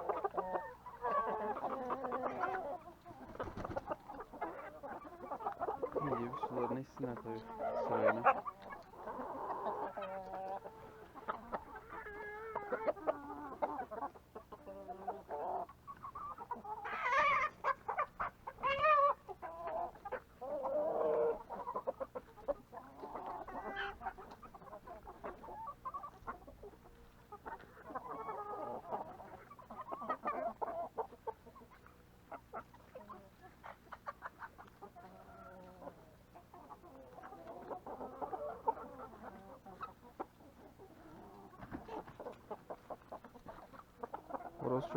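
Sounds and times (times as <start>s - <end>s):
chickens clucking and calling: 0.0s - 44.9s.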